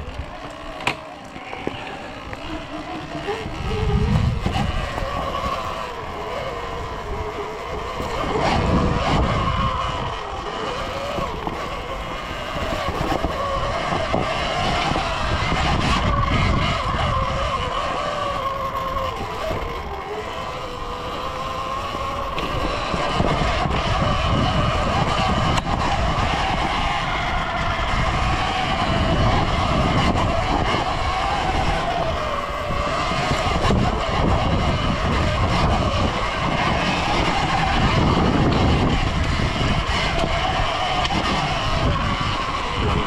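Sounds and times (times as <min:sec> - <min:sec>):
electric motorbike motor whining: 0:00.0 - 0:43.0.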